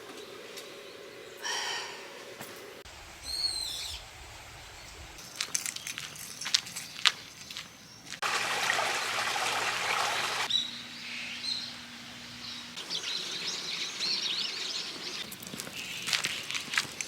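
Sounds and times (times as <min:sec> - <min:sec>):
small birds chirping: 0:00.0 - 0:08.2, 0:09.6 - 0:17.0.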